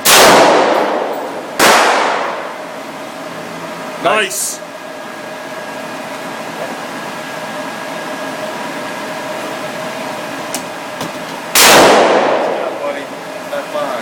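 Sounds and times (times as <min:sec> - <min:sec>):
ventilation hum and hiss: 0:00.0 - 0:14.0.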